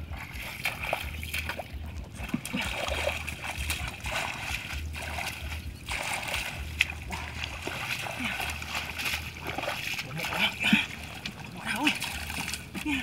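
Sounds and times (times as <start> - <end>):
hands splashing in muddy water: 0.0 - 13.0.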